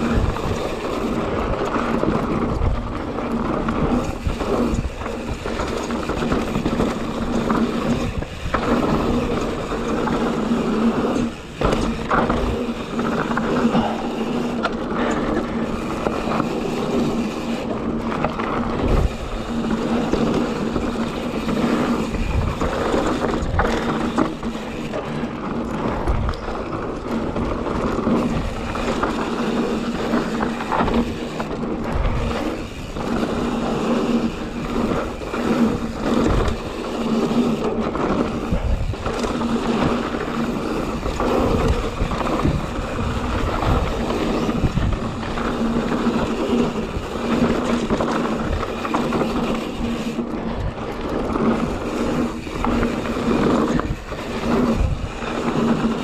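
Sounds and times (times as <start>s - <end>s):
bike thumps and rattles: 0.0s - 56.0s
bike tyres scraping on dirt: 0.0s - 56.0s.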